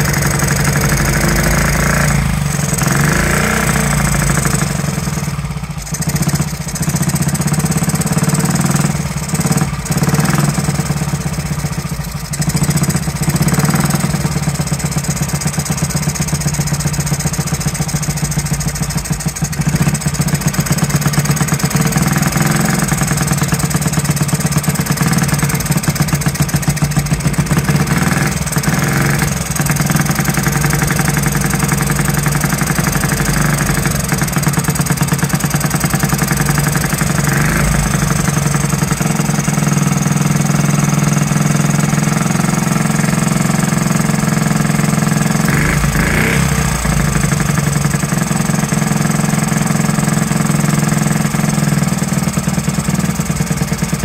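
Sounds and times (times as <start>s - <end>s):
minibike engine running: 0.0s - 54.0s.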